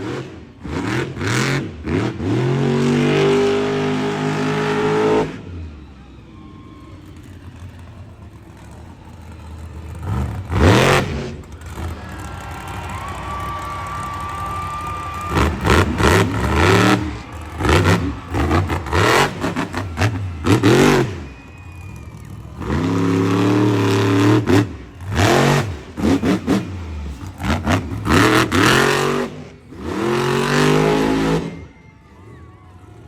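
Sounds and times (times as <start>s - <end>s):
truck engine revving hard: 0.0s - 33.0s.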